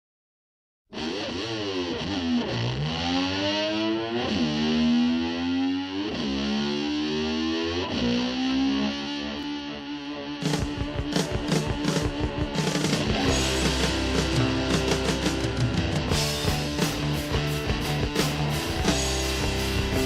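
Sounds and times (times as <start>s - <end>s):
distorted electric slide guitar: 0.9s - 20.0s.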